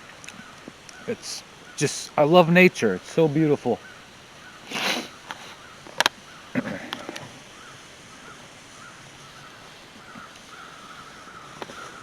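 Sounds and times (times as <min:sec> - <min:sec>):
crows cawing faintly: 0:00.2 - 0:02.2, 0:03.4 - 0:12.0.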